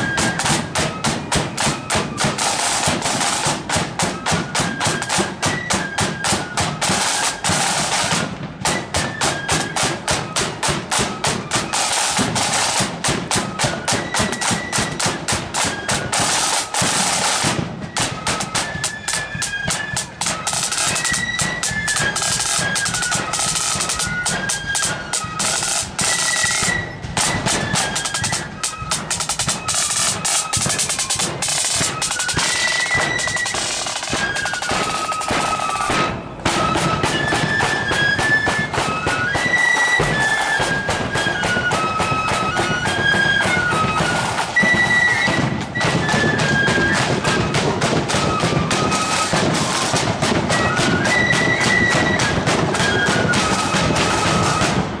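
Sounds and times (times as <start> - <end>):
high flute melody: 0.0 - 54.9
marching flute band: 0.0 - 55.0
snare drum strokes: 0.0 - 55.0.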